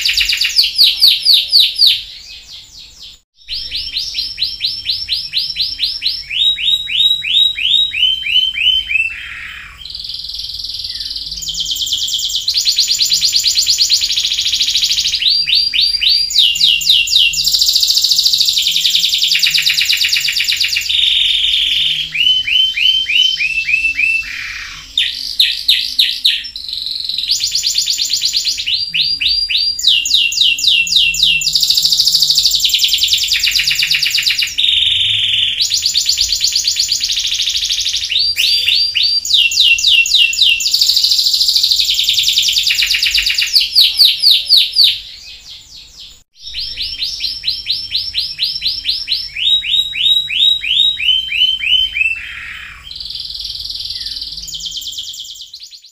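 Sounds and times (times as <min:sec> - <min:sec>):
canary singing fast trills: 0:00.0 - 0:55.9.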